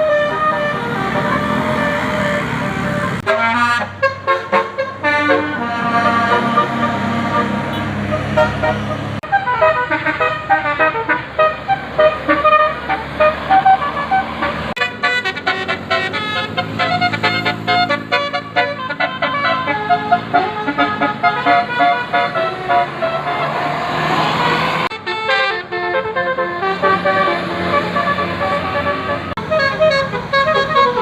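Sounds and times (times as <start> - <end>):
multi-tone musical bus horn: 0.0 - 31.0.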